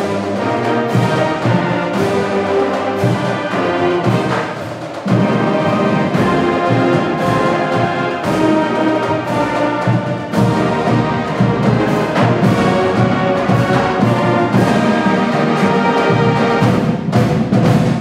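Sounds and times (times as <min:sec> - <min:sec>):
brass-led music: 0:00.0 - 0:18.0
timpani drum strikes: 0:00.0 - 0:18.0.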